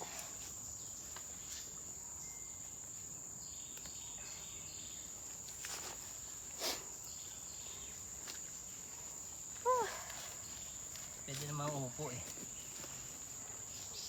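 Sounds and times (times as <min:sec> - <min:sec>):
forest insects droning: 0:00.0 - 0:14.0.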